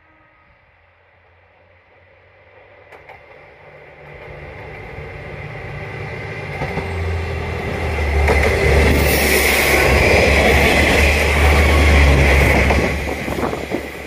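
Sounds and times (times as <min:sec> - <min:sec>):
diesel train engine rumble: 0:00.0 - 0:14.0
rail noise: 0:00.0 - 0:14.0.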